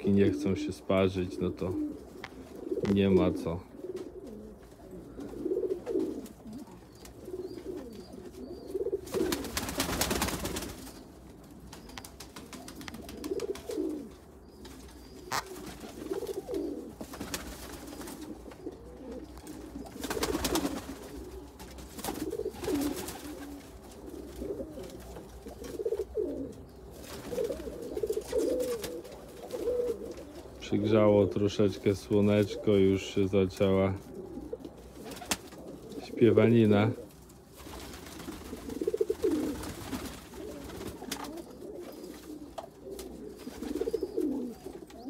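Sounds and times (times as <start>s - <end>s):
pigeons cooing: 0.0s - 45.0s.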